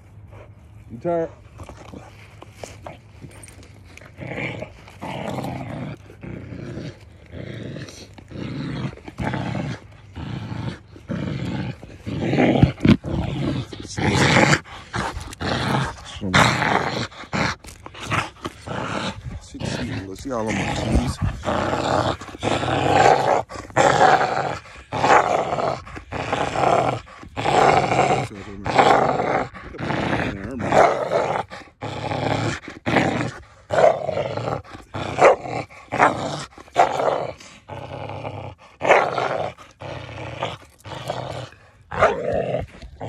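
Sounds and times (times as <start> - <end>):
dog growling: 0.3 - 43.0.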